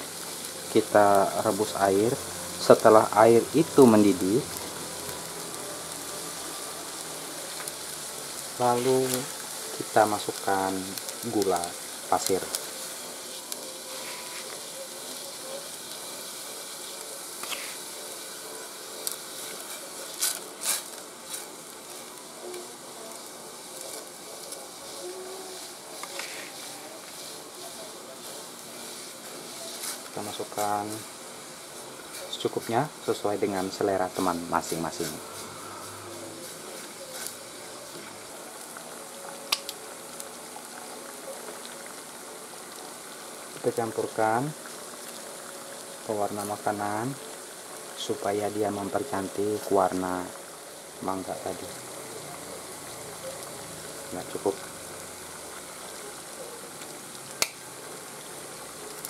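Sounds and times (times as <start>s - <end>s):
sugar water simmering with hiss: 0.0s - 59.0s
syrup boiling in pot: 0.0s - 59.0s.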